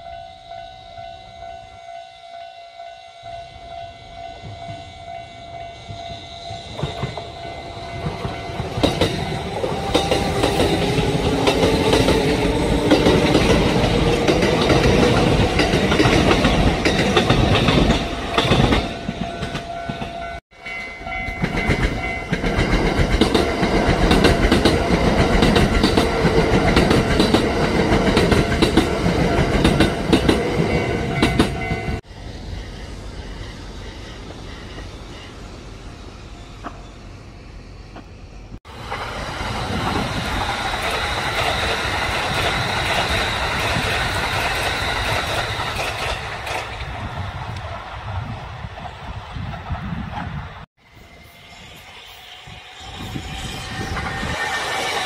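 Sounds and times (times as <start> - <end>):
train passing rumble: 0.0 - 55.0.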